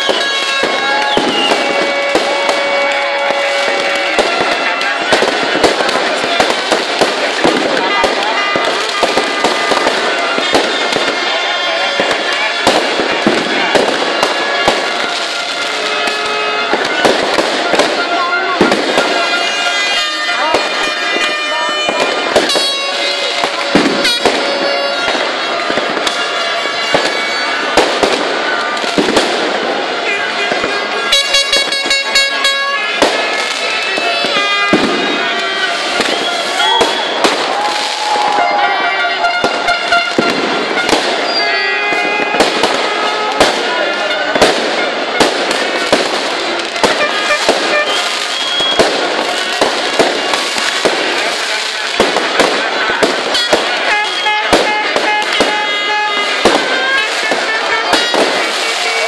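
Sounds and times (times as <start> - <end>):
continuous noisy din: 0.0 - 59.0
fireworks bangs and cracks: 0.0 - 59.0
reedy party horn toots: 0.0 - 59.0.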